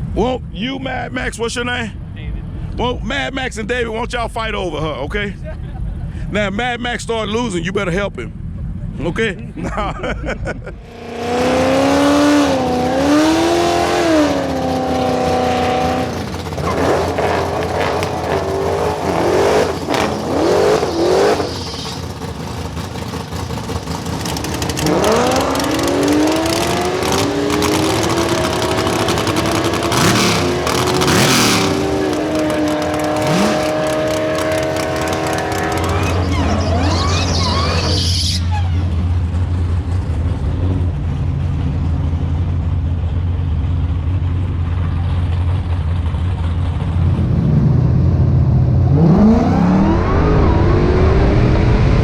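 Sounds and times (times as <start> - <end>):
car engines accelerating hard: 8.3 - 52.0.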